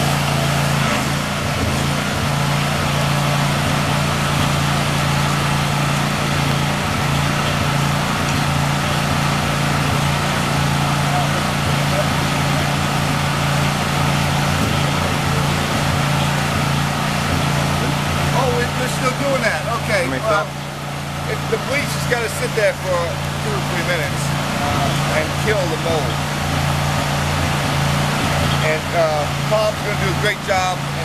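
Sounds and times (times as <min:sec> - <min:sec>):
small gasoline engine running: 0:00.0 - 0:31.0.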